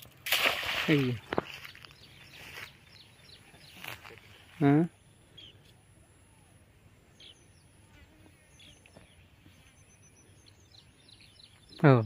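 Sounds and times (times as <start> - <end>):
faint bird chirps: 0.9 - 12.0.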